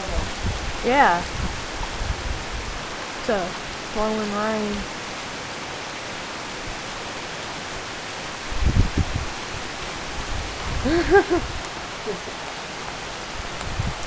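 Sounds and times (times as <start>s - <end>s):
rain pouring: 0.0s - 14.0s
wind gusts rumbling on microphone: 0.0s - 14.0s.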